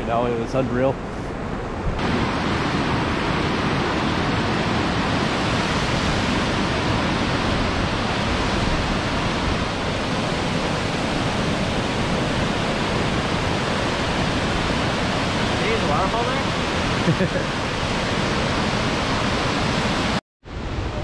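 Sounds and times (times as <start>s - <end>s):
waterfall rushing: 2.0s - 20.2s.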